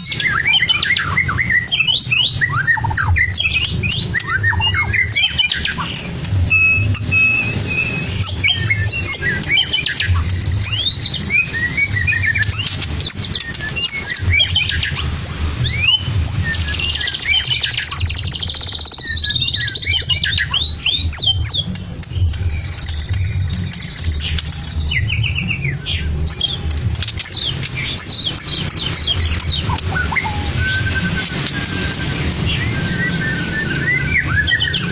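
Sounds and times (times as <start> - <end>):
bird singing varied song: 0.0 - 34.9.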